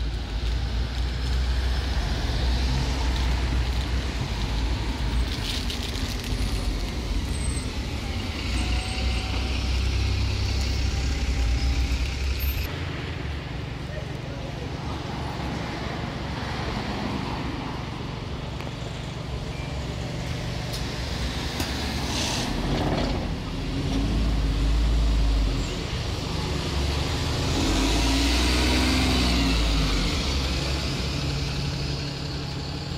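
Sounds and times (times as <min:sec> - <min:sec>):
bus engines rumbling: 0:00.0 - 0:32.9.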